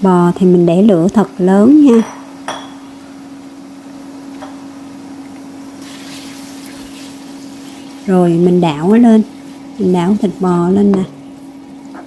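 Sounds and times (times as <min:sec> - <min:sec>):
steady low hum: 0:00.0 - 0:12.0
beef sizzling in hot oil: 0:01.0 - 0:12.0.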